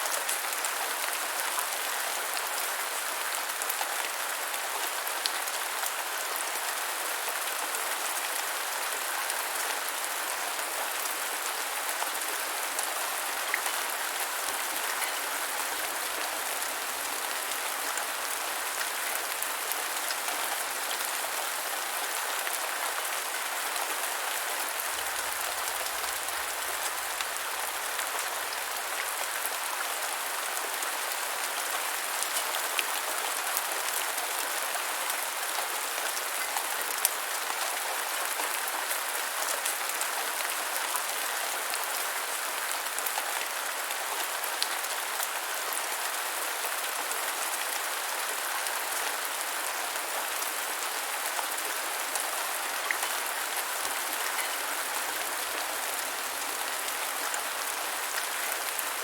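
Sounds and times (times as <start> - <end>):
steady rain on the ground: 0.0 - 59.0.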